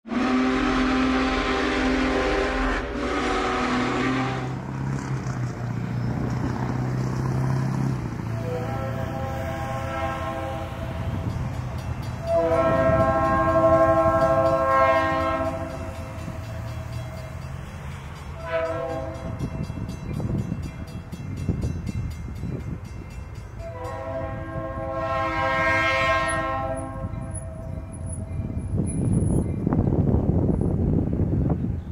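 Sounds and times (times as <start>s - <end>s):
locomotive engine drone: 0.1s - 31.9s.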